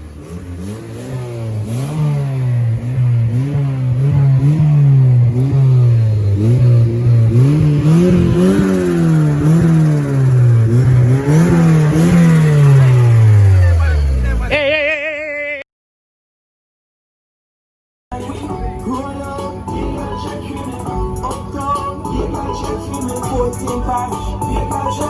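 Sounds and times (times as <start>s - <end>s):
car engine revving: 0.0s - 14.8s, 18.2s - 25.0s.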